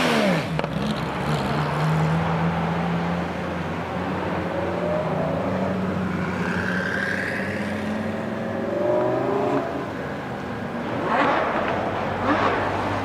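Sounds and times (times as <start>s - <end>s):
car accelerating: 0.0s - 13.0s.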